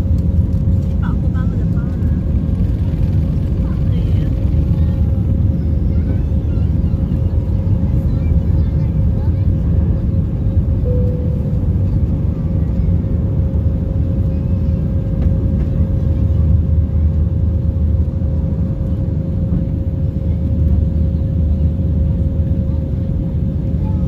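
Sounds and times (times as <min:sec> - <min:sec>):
constant hum: 0:00.0 - 0:24.0
jet engine and airflow roar: 0:00.0 - 0:24.0.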